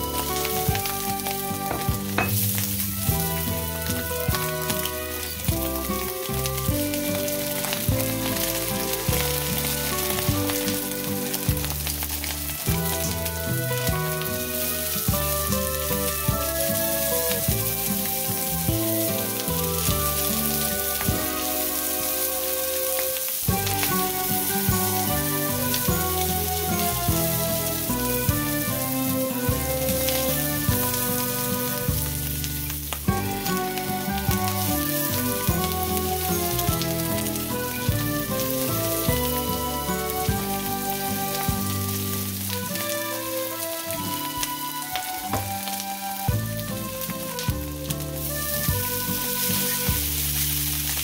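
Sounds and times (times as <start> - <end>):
background music with steady beat: 0.0 - 50.3
onion and egg sizzling in pan: 0.0 - 51.0.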